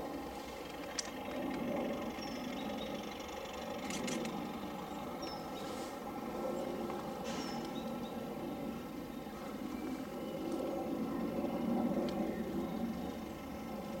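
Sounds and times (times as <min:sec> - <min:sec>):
distant diesel locomotive drone: 0:00.0 - 0:14.0.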